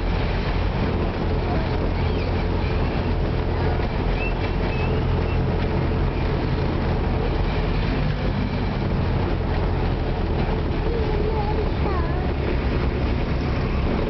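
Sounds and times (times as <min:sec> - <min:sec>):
low engine hum: 0:00.0 - 0:14.0
road noise rumble: 0:00.0 - 0:14.0.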